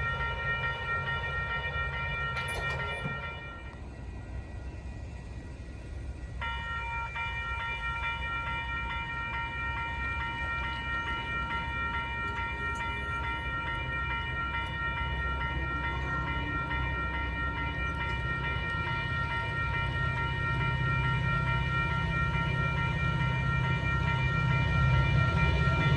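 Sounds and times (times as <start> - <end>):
crossing warning bell ringing: 0.0 - 25.9
diesel train rumble: 0.0 - 25.9.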